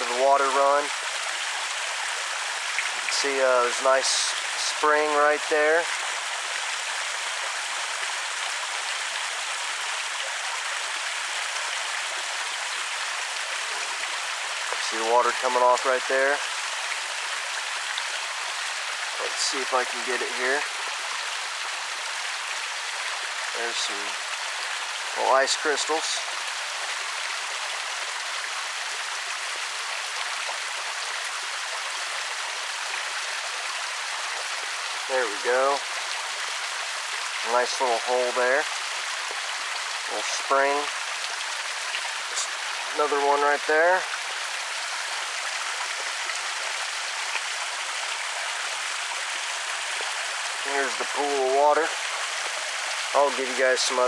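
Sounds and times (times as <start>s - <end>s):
creek waterfall rushing: 0.0s - 54.0s.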